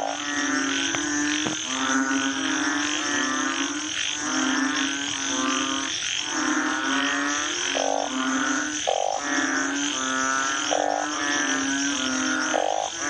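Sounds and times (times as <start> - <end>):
frogs calling: 0.0 - 13.0
steady high buzz: 0.0 - 13.0.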